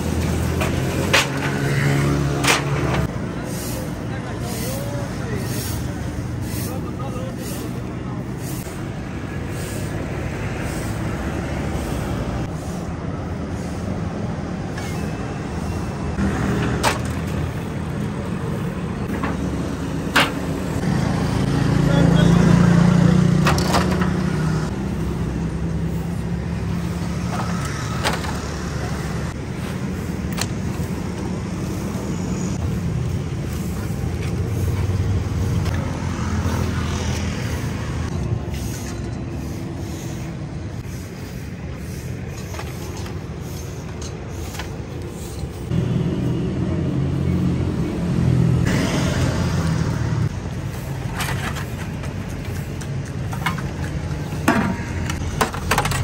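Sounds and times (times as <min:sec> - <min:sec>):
vehicle engines rumbling: 0:00.0 - 0:56.0.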